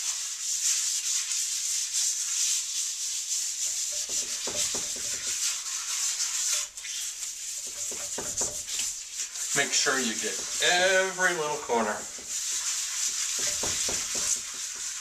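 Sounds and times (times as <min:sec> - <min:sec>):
salt scratching on wood: 0:00.0 - 0:15.0.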